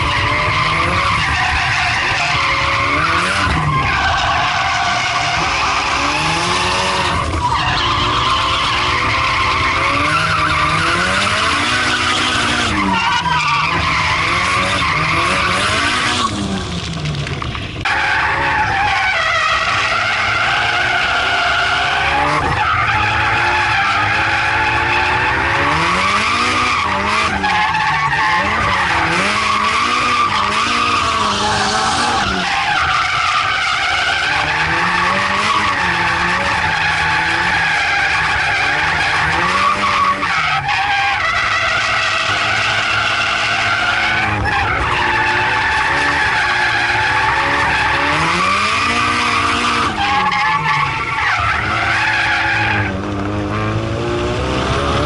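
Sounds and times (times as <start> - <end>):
car engine revving high: 0.0 - 17.0, 17.9 - 55.0.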